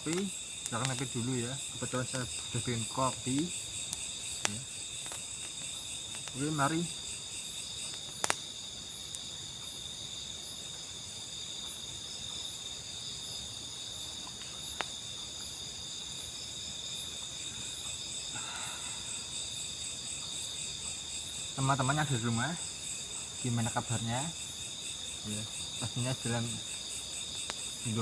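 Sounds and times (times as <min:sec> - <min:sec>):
night insects chirring: 0:00.0 - 0:28.0.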